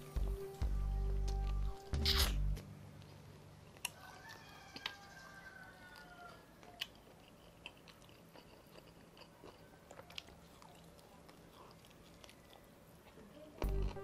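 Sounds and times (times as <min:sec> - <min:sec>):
biting and chewing fried chicken: 0:00.0 - 0:14.0.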